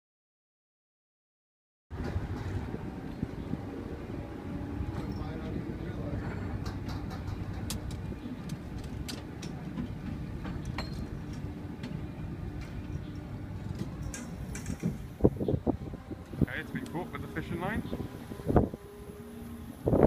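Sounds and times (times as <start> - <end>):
ship engine rumble: 1.9 - 20.0
wind: 1.9 - 20.0.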